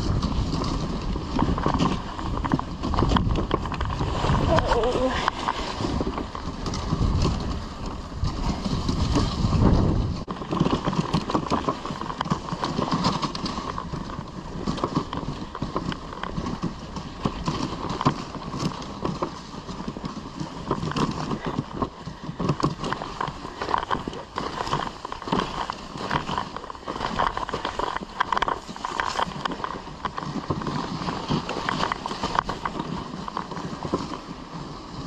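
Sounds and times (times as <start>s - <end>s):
sled knocks and rattles: 0.0s - 35.0s.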